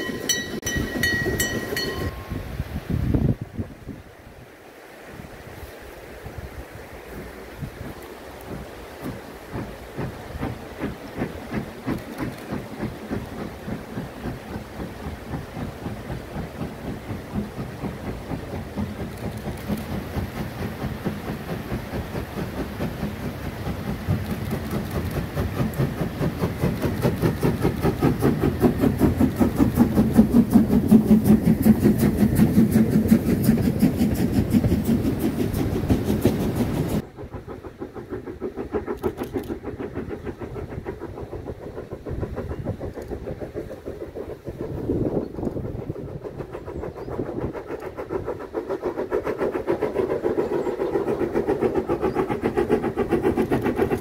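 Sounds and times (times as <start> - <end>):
steam locomotive chuffing: 0.0 - 2.8, 6.0 - 54.0.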